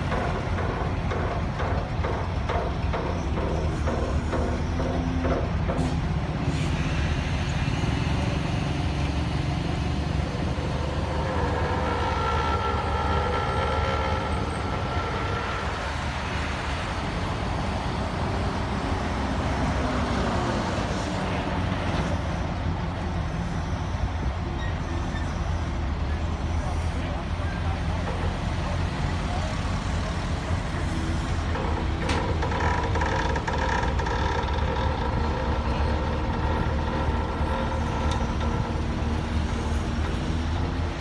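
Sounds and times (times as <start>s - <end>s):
heavy diesel machinery running: 0.0s - 41.0s.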